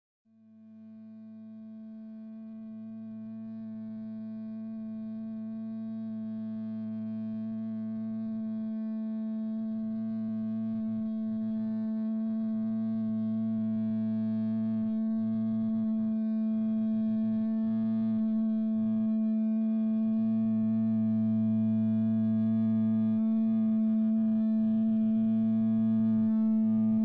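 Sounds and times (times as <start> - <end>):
lower drone tone: 2.6 - 27.0.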